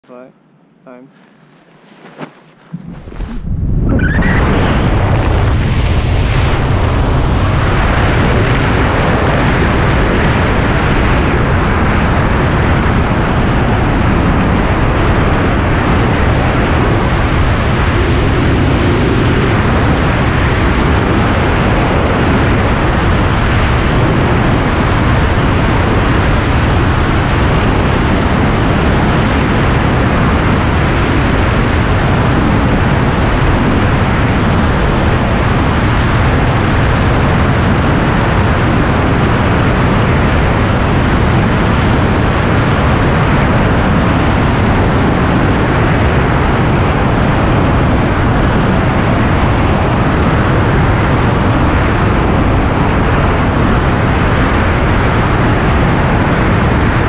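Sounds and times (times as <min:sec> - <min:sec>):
wind blasting across microphone: 0:01.0 - 0:57.0.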